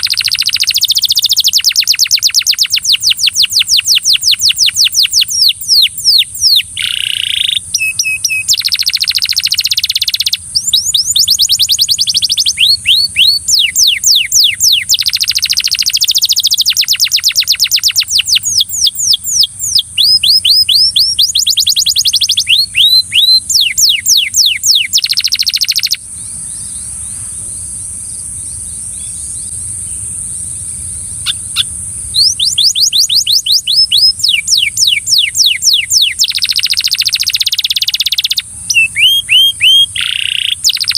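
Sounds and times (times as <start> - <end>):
canary trilling: 0.0 - 26.0, 31.2 - 40.9.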